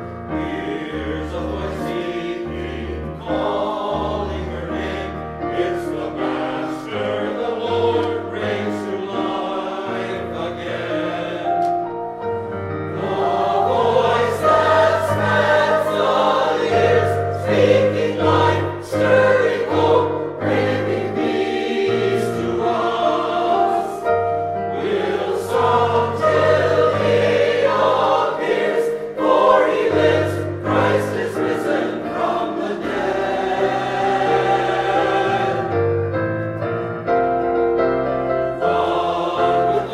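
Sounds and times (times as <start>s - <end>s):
choir singing sacred music: 0.0s - 36.2s, 38.4s - 39.9s.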